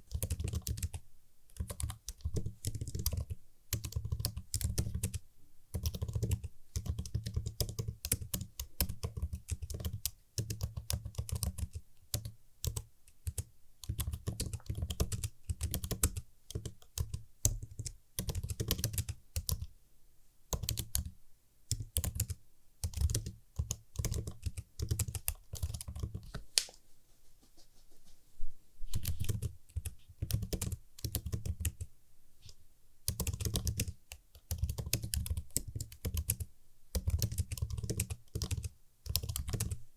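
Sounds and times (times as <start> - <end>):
typing on computer keyboard: 0.1 - 19.7, 20.5 - 26.3, 28.9 - 31.9, 33.1 - 39.8.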